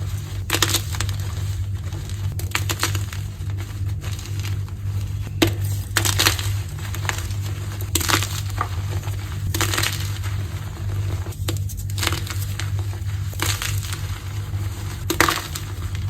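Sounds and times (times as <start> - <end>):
chalk blocks crunching: 0.0 - 16.0
steady low hum: 0.0 - 16.0.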